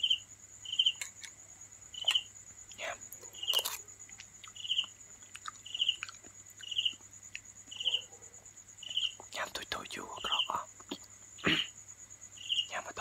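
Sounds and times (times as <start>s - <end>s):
crickets trilling: 0.0s - 13.0s
faint eating ticks: 0.0s - 13.0s.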